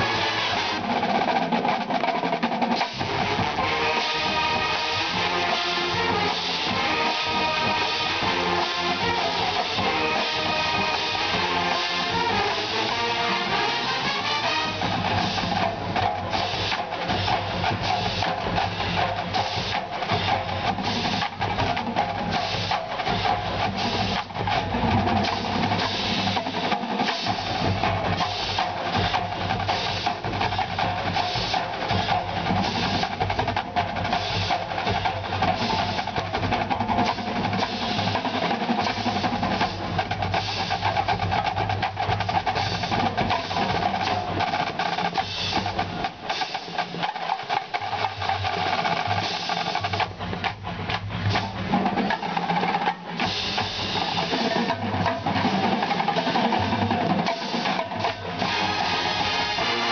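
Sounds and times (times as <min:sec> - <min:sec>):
snare drum rolls: 0:00.0 - 0:59.9.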